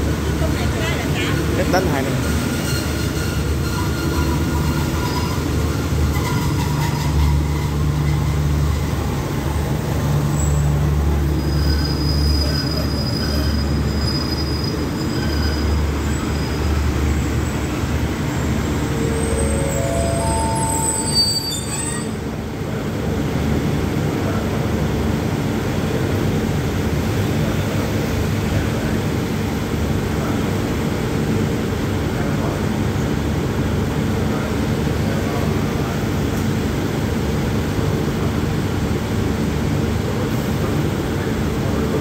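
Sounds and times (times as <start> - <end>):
train engines idling: 0.0 - 42.0.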